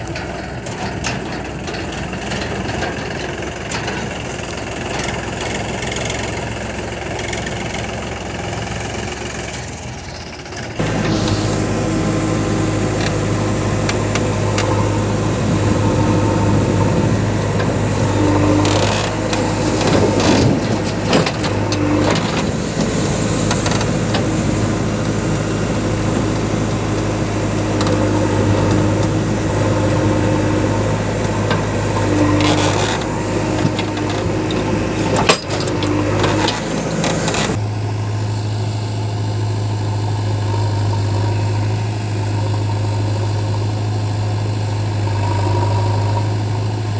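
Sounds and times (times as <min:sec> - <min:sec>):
diesel engines running: 0:00.0 - 0:46.9
loader clatter: 0:00.0 - 0:46.9.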